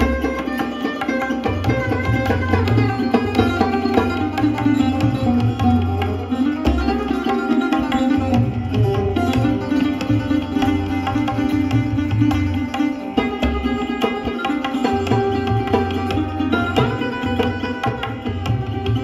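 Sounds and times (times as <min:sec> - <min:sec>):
plucked sarod notes: 0:00.0 - 0:19.0
tabla strokes: 0:00.0 - 0:19.0.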